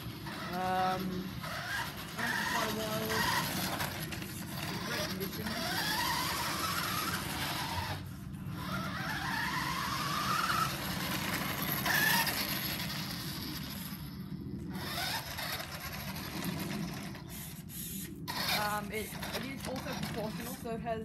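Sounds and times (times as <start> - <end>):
electric motor whining: 0.0 - 20.8
wheels rattling on pavers: 0.0 - 21.0.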